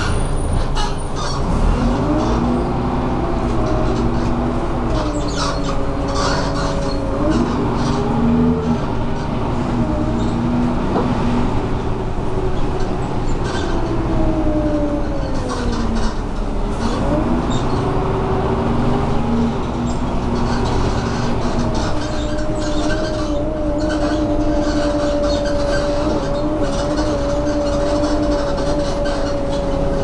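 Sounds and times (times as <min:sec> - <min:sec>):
bus engine whine: 0:00.0 - 0:30.0
low engine rumble: 0:00.0 - 0:30.0.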